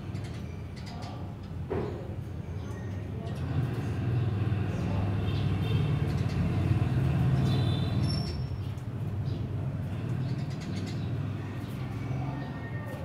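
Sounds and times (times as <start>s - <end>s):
sparrow chirps: 2.4s - 13.0s.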